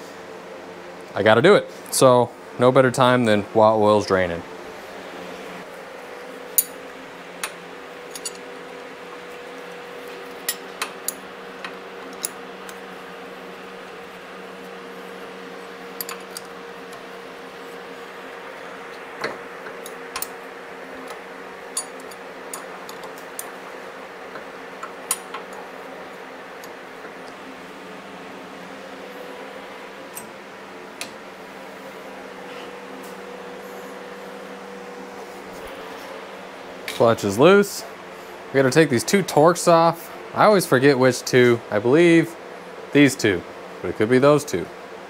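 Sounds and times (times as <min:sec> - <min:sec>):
garage fan humming: 0:00.0 - 0:45.0.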